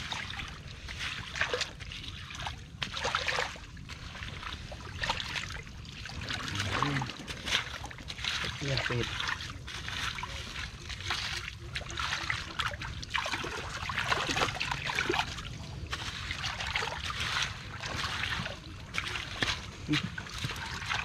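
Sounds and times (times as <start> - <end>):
water and wet mud splashing: 0.0 - 21.0.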